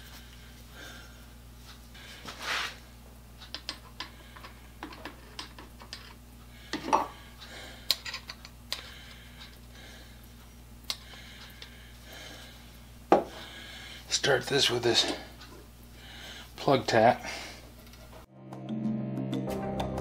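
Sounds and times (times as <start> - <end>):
faint shop hum: 0.0 - 18.3.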